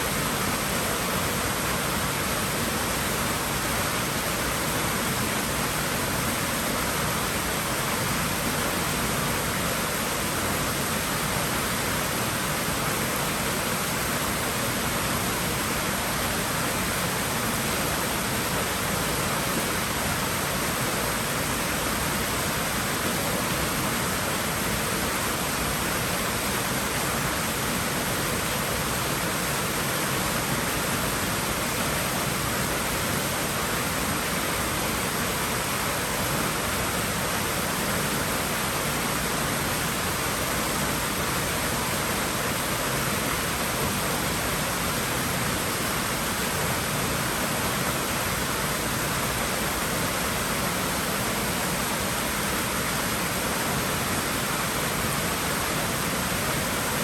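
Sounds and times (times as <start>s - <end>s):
pool water running: 0.0s - 57.0s.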